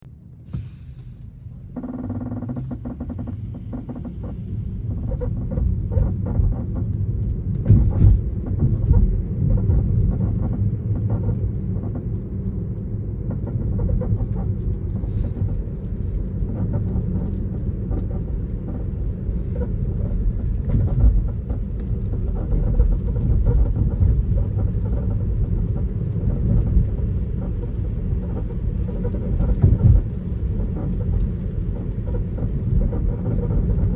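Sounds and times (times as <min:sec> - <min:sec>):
tyres rumbling on road: 0:00.1 - 0:33.9
car body creaks and ticks: 0:00.4 - 0:33.9.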